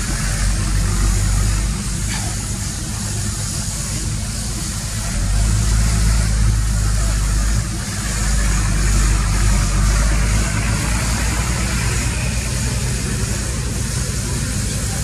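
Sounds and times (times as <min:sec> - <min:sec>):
engine rumbling: 0:00.0 - 0:15.0
hiss: 0:00.0 - 0:15.0.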